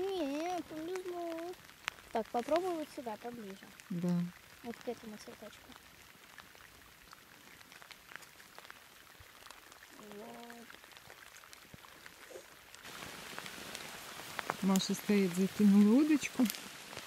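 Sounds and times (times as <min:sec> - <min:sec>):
light rain on pond water: 0:00.0 - 0:17.0.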